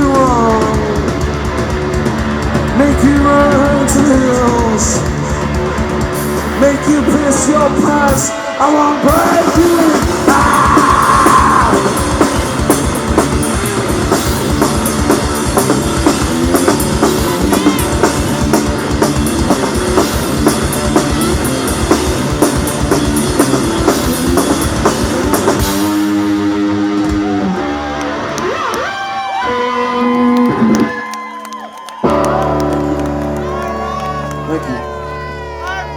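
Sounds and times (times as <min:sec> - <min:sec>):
electric guitar sliding notes: 0:00.0 - 0:31.3, 0:32.0 - 0:35.7
rock band playing live: 0:00.0 - 0:35.9.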